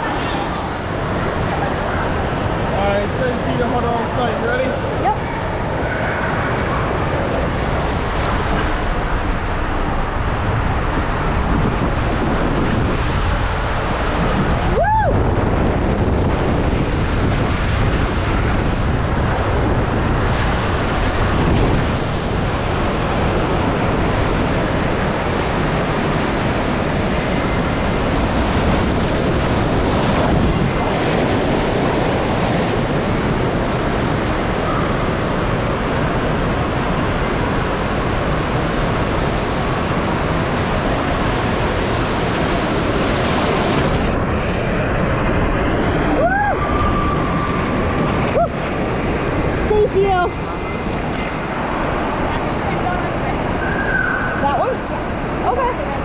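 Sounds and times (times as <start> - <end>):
rushing and splashing water: 0.0 - 56.0.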